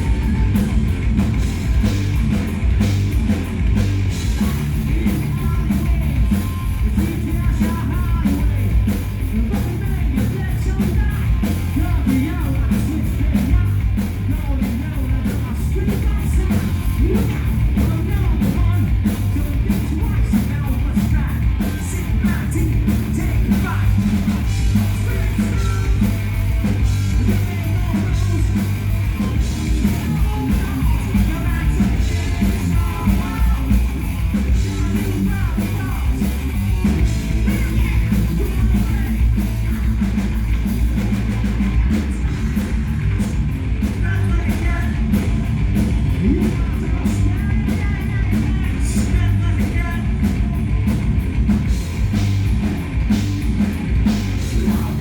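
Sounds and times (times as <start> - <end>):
man singing: 0.0 - 1.0, 4.1 - 40.4, 41.5 - 50.9, 54.4 - 55.0
bass guitar: 0.0 - 55.0
distorted electric guitars: 0.0 - 55.0
drums: 0.0 - 55.0.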